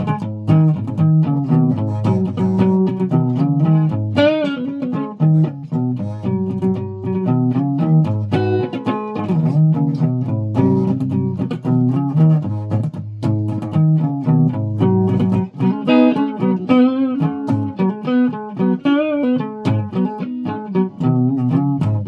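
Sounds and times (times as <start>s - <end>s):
plucked stringed instrument: 0.0s - 22.0s.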